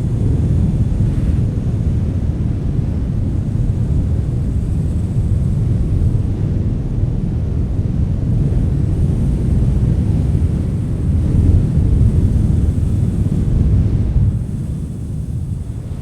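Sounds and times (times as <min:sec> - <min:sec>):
wind blowing: 0:00.0 - 0:16.0
wind buffeting microphone: 0:00.0 - 0:16.0.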